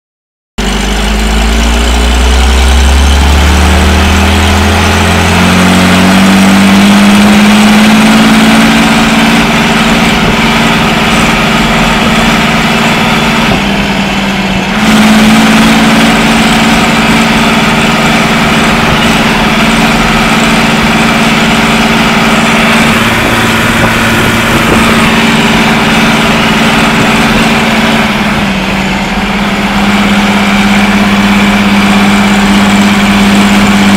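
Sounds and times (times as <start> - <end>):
tractor engine running: 0.6 - 33.9.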